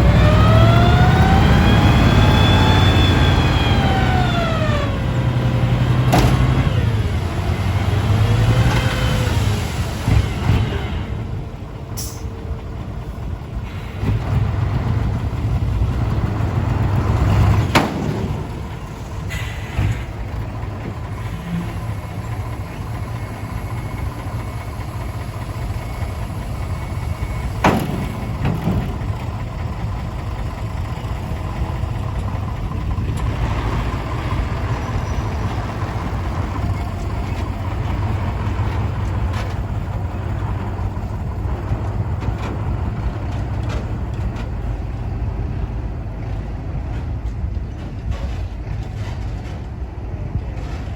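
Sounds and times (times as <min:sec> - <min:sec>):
dump truck diesel engine running: 0:00.0 - 0:50.9.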